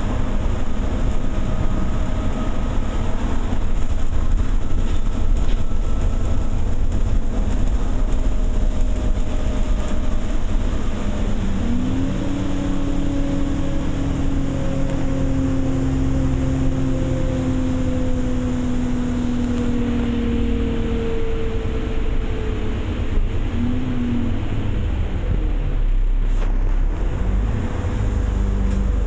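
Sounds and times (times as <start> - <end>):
diesel bus engine: 0.0 - 29.0
road noise: 0.0 - 29.0.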